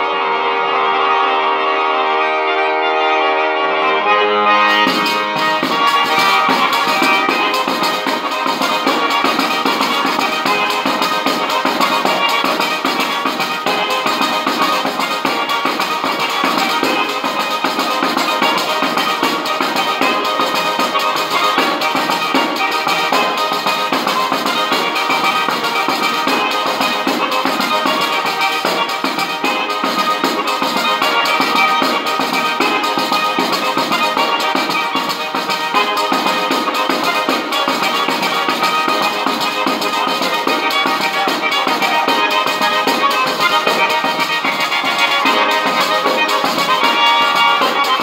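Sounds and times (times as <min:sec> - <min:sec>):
button accordion chords: 0:00.0 - 0:48.0
jingling frame drum beat: 0:04.6 - 0:48.0.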